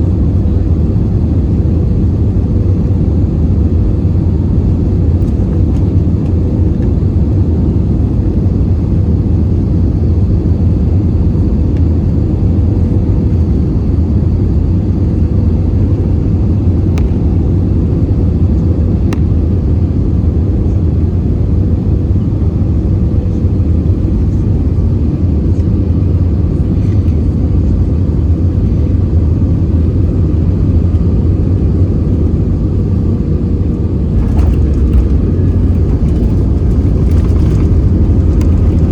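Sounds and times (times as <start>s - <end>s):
aircraft engine and airflow rumble: 0.0s - 38.9s.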